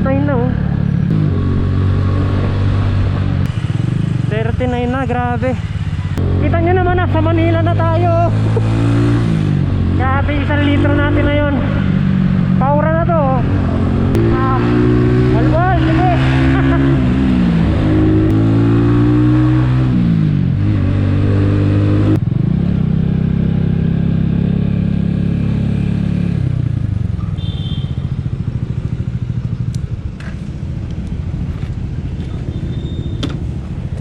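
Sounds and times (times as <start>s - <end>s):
motorcycle engine riding along: 0.0s - 34.0s.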